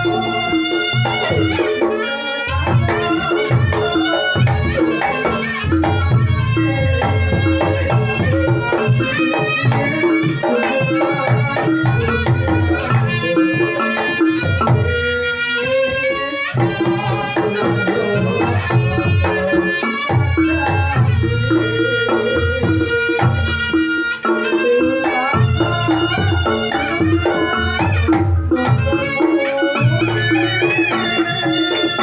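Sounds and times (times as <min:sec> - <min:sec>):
hand drums driving pattern: 0:00.0 - 0:32.0
reedy melody line: 0:00.0 - 0:32.0.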